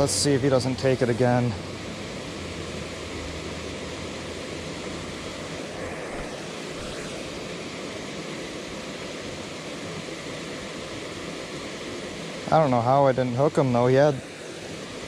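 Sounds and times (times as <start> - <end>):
water rushing through spillway: 0.0 - 15.0.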